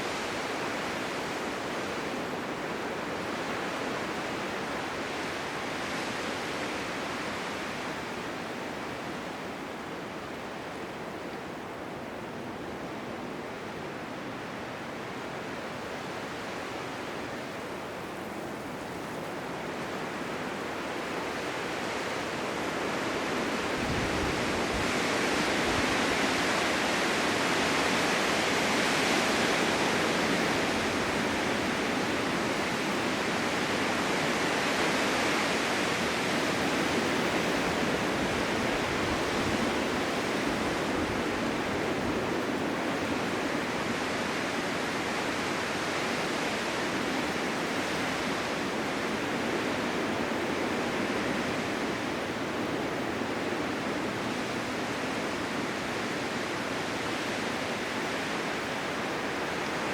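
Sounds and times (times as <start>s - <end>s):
blizzard wind rushing hiss: 0.0s - 59.9s.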